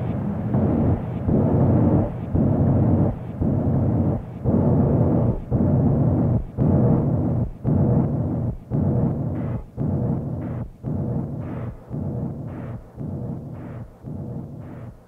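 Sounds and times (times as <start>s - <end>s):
pulsing low noise: 0.0s - 15.0s.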